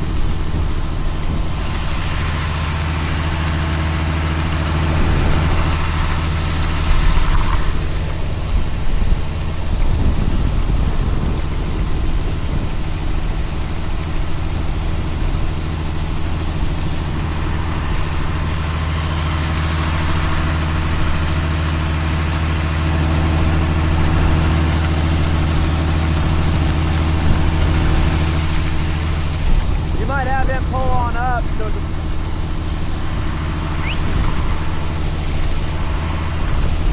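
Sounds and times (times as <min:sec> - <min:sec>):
large engine running: 0:00.0 - 0:36.9.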